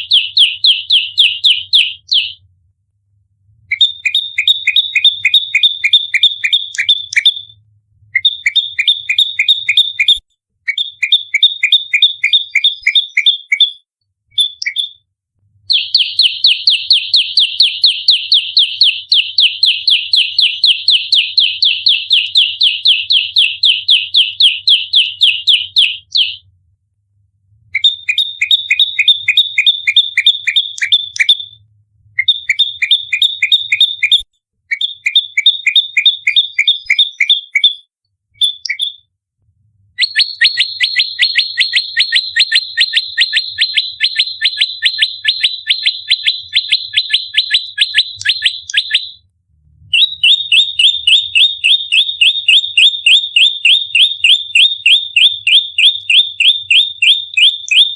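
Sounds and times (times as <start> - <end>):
bird singing rapid high chirps: 0.0 - 2.4, 3.7 - 15.0, 15.7 - 26.4, 27.7 - 31.6, 32.2 - 39.1, 40.0 - 49.2, 49.9 - 57.9.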